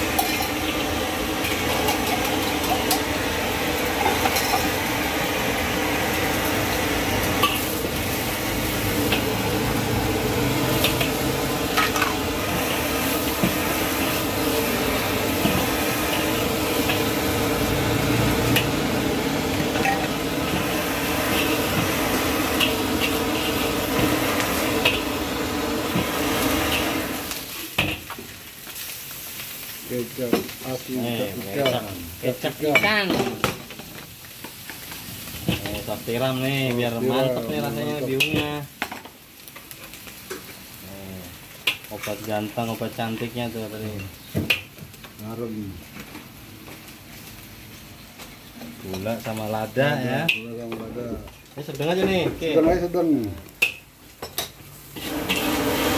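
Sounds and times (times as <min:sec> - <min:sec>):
food sizzling in wok: 0:00.0 - 0:55.9.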